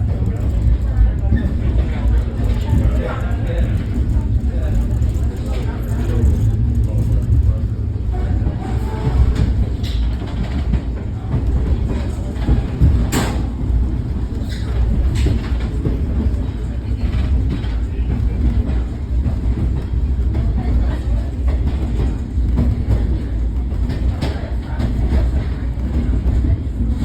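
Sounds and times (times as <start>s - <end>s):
train rumbling on track: 0.0s - 27.0s.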